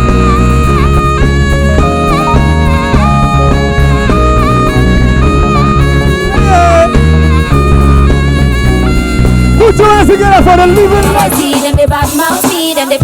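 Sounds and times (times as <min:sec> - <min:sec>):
sustained melody lines: 0:00.0 - 0:11.6
bass and drum groove: 0:00.0 - 0:13.0.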